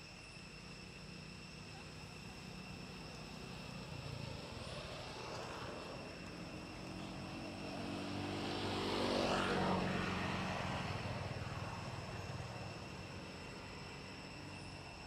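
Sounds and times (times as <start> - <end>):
propeller aircraft passing: 1.4 - 15.0.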